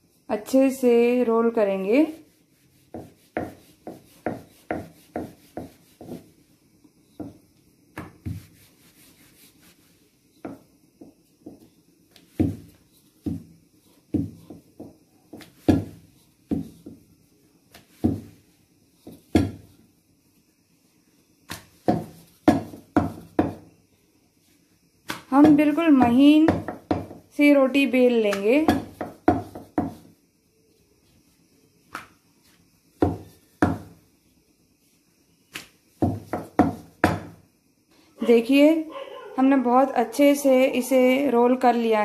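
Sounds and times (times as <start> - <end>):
rolling pin rolling dough: 0.0 - 37.5.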